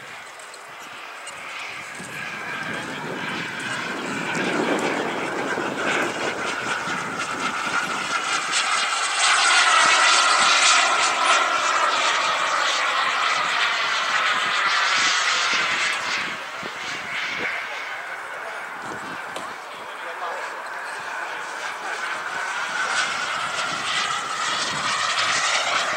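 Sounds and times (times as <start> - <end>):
model jet turbine whining: 0.0 - 25.9.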